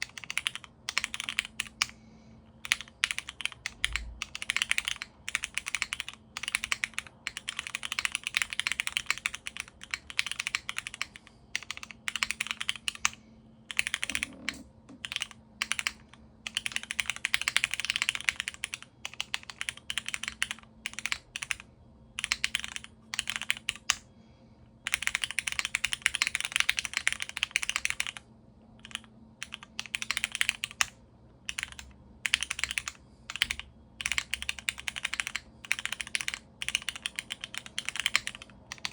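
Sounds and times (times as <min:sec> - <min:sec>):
mechanical keyboard typing: 0:00.0 - 0:02.0, 0:02.6 - 0:24.0, 0:24.9 - 0:28.2, 0:28.8 - 0:38.9.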